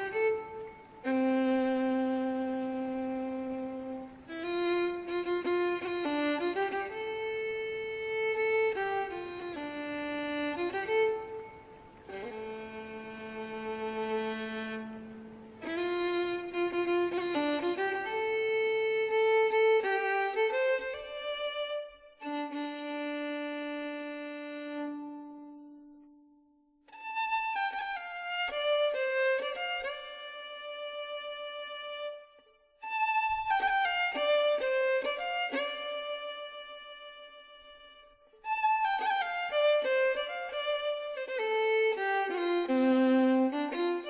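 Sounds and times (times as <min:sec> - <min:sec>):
slow violin melody: 0:00.0 - 0:44.0.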